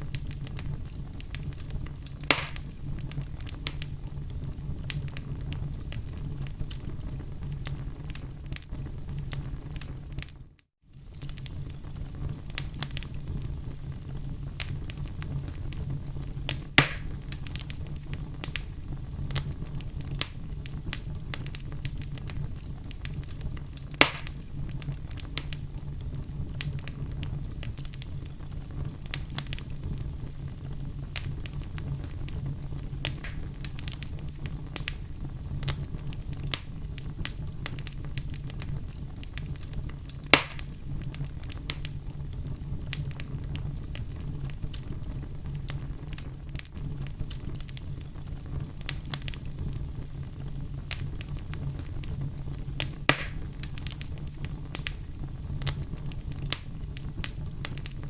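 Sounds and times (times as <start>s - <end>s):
loud sharp fire pops: 0.0s - 10.4s, 11.0s - 58.0s
fire flames rumbling: 0.0s - 58.0s
small fire crackles: 0.0s - 58.0s.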